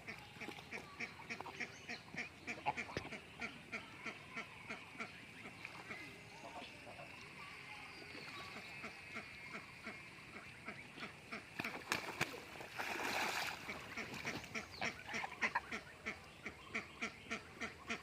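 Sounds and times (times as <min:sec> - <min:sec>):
ducks quacking: 0:00.0 - 0:07.6, 0:08.2 - 0:12.5, 0:13.3 - 0:18.0.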